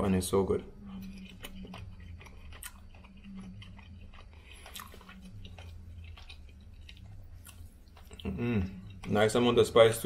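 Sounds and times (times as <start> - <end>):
person chewing: 0.0 - 9.8
low steady hum: 0.0 - 10.0.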